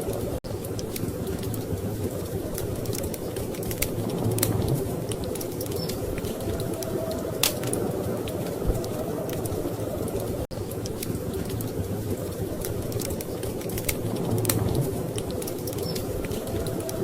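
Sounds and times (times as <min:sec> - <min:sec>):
wood fire crackling: 0:00.0 - 0:17.0
storm wind rushing: 0:01.1 - 0:17.0.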